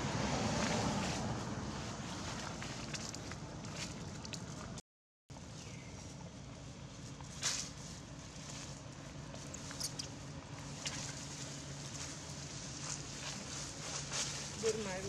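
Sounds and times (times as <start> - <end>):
steady low hum: 0.0 - 15.0
dry leaves rustling: 0.4 - 4.2, 5.5 - 15.0.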